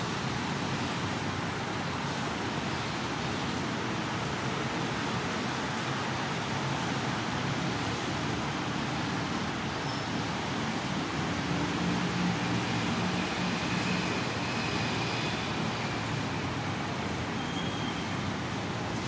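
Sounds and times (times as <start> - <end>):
steady rushing background noise: 0.0 - 19.0.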